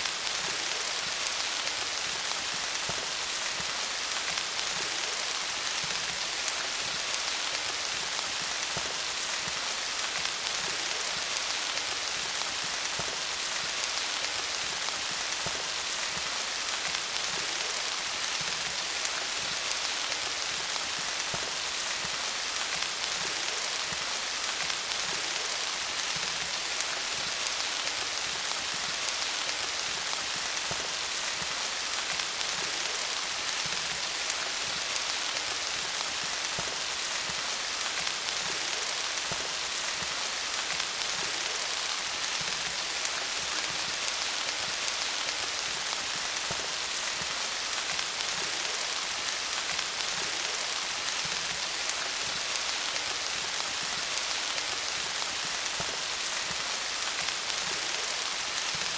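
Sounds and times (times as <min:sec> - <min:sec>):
rain falling on leaves: 0:00.0 - 0:58.9.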